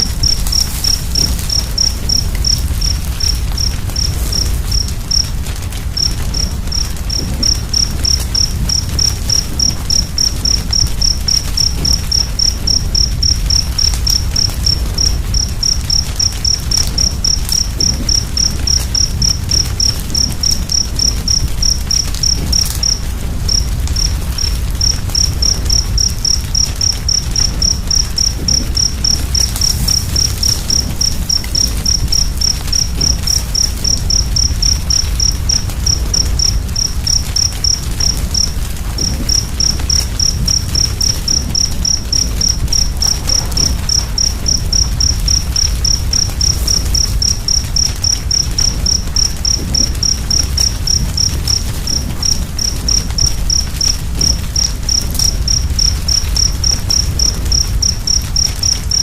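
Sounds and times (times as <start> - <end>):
cricket chirping: 0.0 - 59.0
steady low rumble: 0.0 - 59.0.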